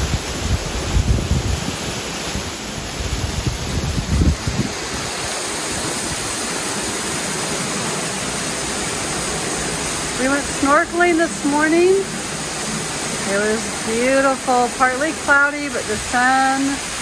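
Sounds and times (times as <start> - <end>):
wind buffeting microphone: 0.0 - 14.7
heavy rain hissing: 0.0 - 17.0
runoff pouring off roof: 0.0 - 17.0.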